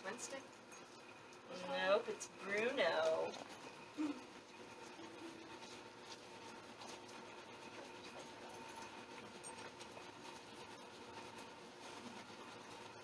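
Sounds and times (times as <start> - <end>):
faint room hum: 0.0 - 13.0
puppy claws scratching: 0.7 - 13.0.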